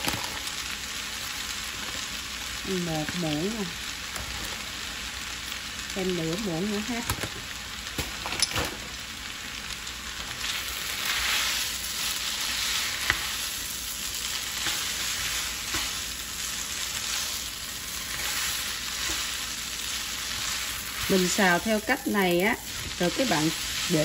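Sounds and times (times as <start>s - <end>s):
noodles sizzling in hot oil: 0.0s - 24.0s.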